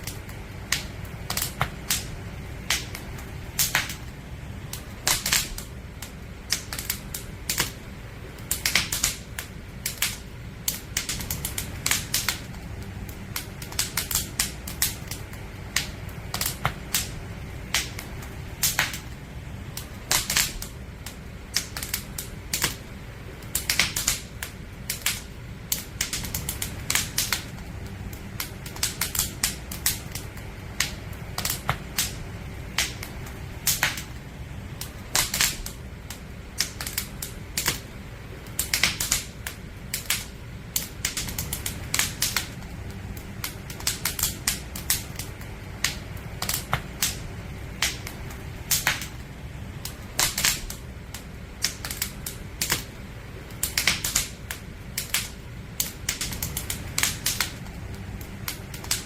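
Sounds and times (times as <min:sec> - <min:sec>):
campfire crackling and popping: 0:00.0 - 0:59.0
fire low rumble: 0:00.0 - 0:59.0.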